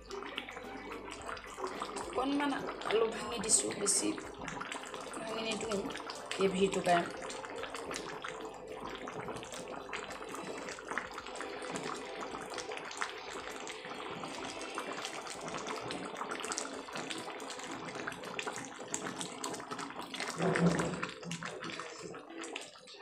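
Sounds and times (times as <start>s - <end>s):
curry bubbling in a pan: 0.0s - 23.0s.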